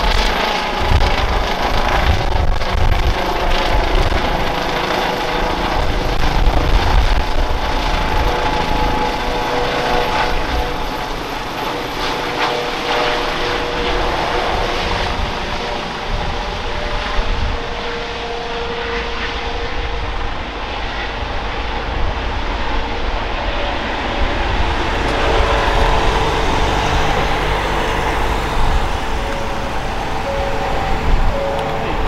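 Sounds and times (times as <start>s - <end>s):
helicopter flying overhead: 0.0s - 32.0s.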